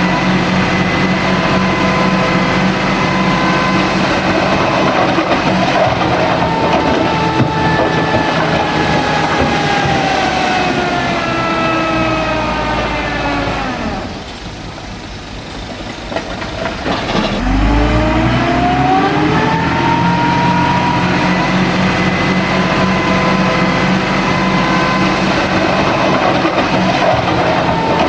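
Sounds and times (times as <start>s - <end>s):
bulldozer diesel engine revving: 0.0s - 28.0s.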